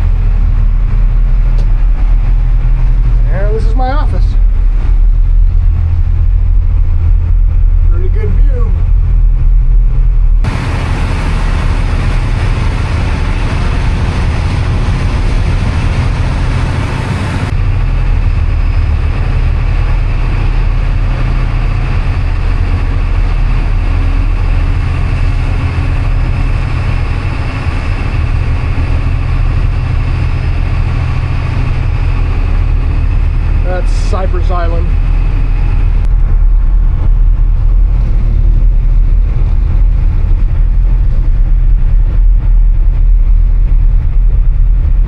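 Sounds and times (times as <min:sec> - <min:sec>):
boat engines droning: 0:00.0 - 0:09.2, 0:10.4 - 0:42.2.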